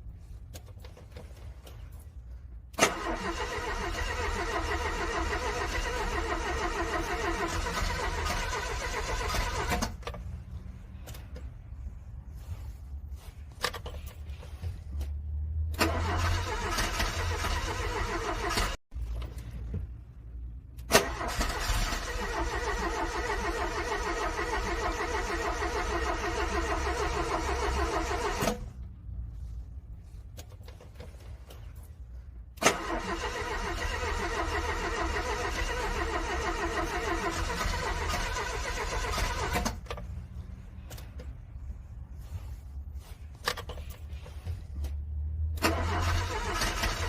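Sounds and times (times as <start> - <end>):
car engine cranking: 2.7 - 11.6, 13.6 - 20.1, 20.8 - 47.0.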